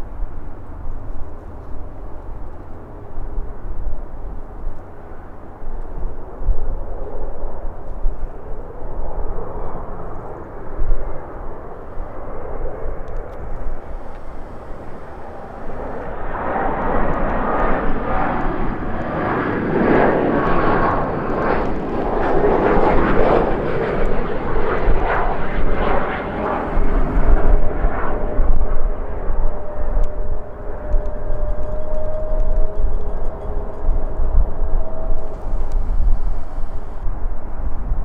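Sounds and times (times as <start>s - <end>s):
wind buffeting microphone: 0.0s - 38.0s
jet engines roaring: 0.4s - 37.8s.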